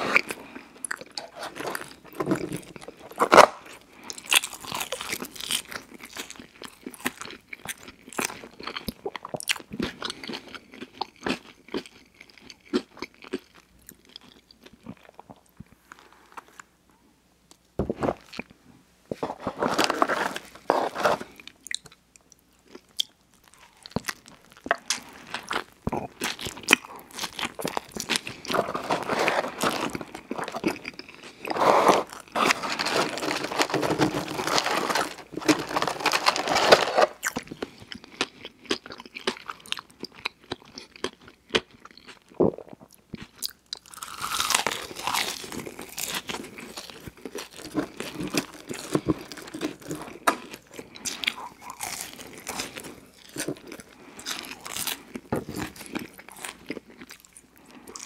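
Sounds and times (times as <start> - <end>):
person chewing crunchy food: 0.0 - 16.6, 18.0 - 58.0.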